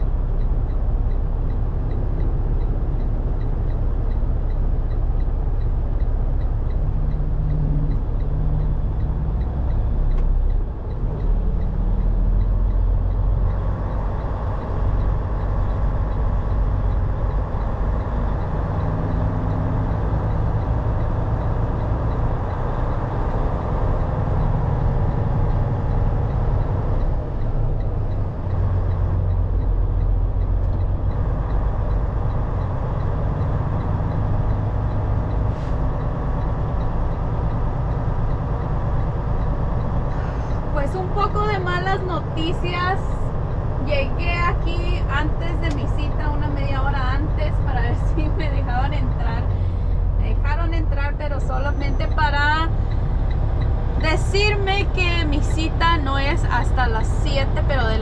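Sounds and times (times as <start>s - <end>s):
truck diesel engine shifting gears: 0.0s - 58.0s.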